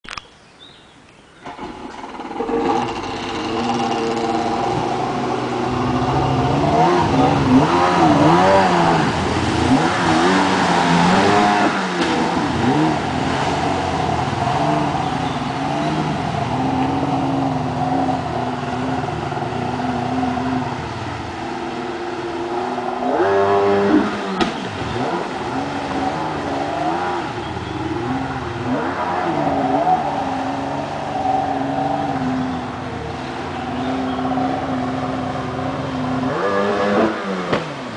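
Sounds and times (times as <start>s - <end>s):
jet ski engine revving: 1.4s - 37.9s.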